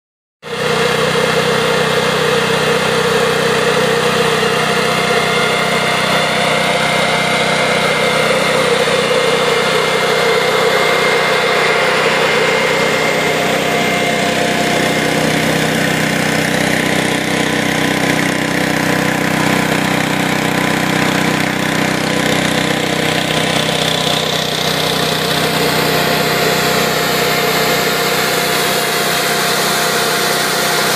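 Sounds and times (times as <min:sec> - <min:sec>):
snowmaking fan drone: 0:00.4 - 0:30.9.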